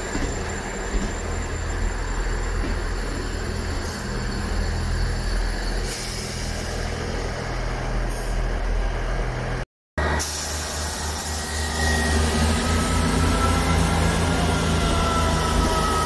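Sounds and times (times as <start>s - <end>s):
train engines humming: 0.0s - 16.0s.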